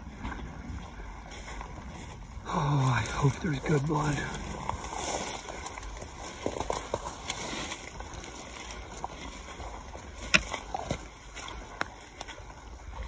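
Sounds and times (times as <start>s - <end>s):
footsteps through leaf litter: 1.1s - 12.7s.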